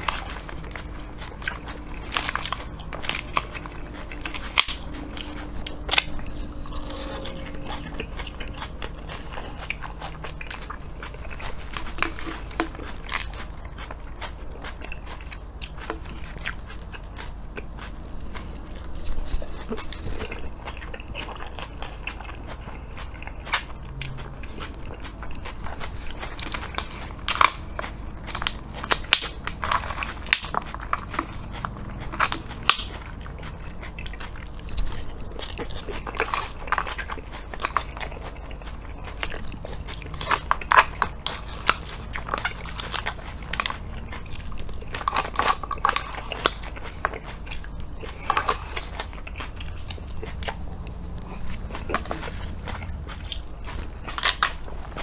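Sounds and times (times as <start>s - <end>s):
chewing crunchy salad: 0.0s - 55.0s.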